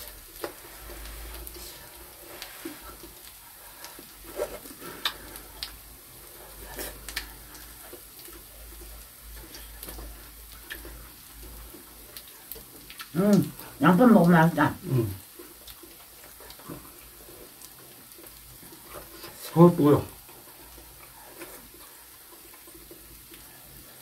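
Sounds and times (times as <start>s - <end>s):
person chewing: 0.0s - 13.8s, 14.8s - 19.5s, 20.1s - 24.0s
faint sizzle of meat on grill: 0.0s - 24.0s.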